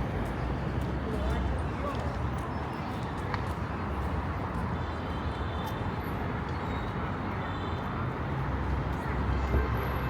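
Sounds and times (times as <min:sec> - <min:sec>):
road traffic rumble: 0:00.0 - 0:10.0
street hum: 0:00.0 - 0:10.0.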